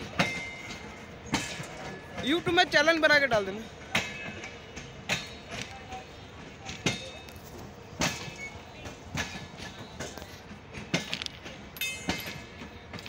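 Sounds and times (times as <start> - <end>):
metallic clanks on rail joints: 0.0 - 13.0
train coaches rumbling: 0.0 - 13.0.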